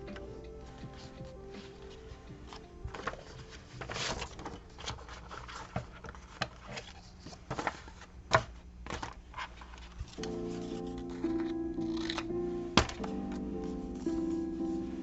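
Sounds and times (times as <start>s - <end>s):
paper rustling: 0.0s - 14.4s.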